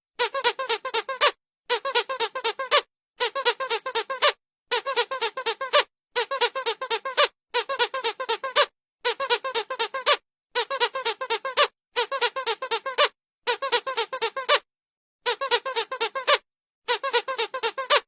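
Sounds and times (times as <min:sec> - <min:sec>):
squeaky dog toy squeaks: 0:00.2 - 0:18.0.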